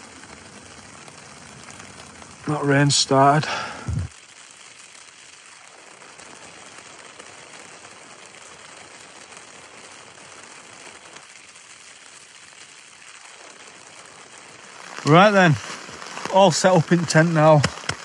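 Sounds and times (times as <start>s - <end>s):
rain on a tent flysheet: 0.0s - 18.0s.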